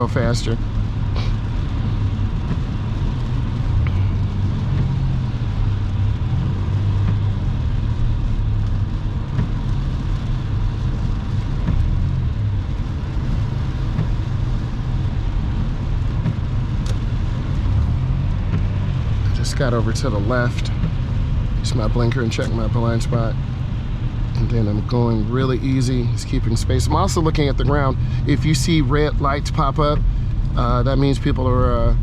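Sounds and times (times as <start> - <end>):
car driving on wet road: 0.0 - 32.0.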